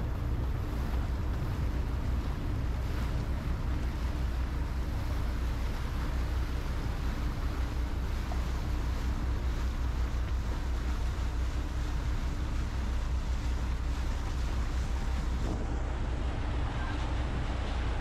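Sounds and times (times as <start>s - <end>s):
motorboat engine running: 0.0s - 18.0s
water rushing past hull: 0.0s - 18.0s
wind rumble on microphone: 0.0s - 18.0s.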